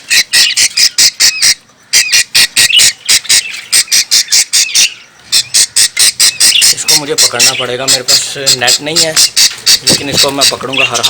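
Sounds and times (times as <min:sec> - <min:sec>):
budgerigars squawking: 0:00.0 - 0:11.0.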